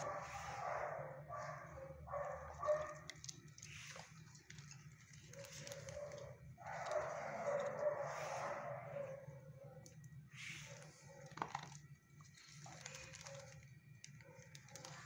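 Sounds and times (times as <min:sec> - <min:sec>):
dogs barking: 0:00.0 - 0:03.3, 0:05.1 - 0:11.8, 0:12.8 - 0:15.0.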